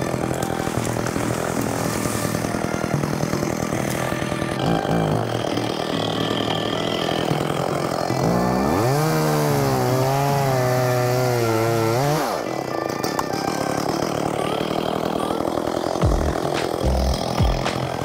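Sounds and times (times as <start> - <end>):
chainsaw revving and cutting wood: 0.0 - 18.0.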